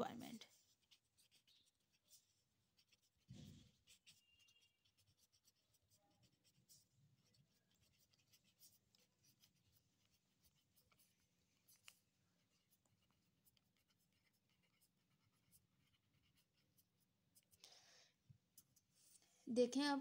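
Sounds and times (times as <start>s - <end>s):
pen scratching on paper: 0.0s - 17.6s, 18.4s - 19.2s.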